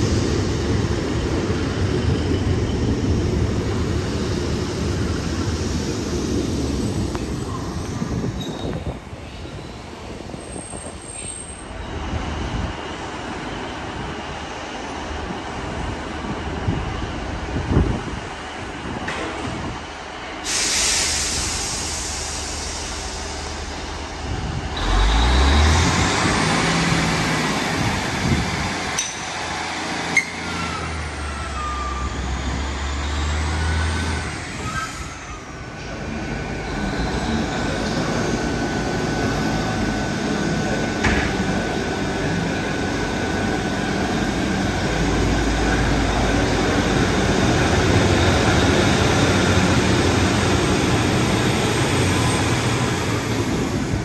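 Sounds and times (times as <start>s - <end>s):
train diesel engines revving: 0.0s - 54.0s.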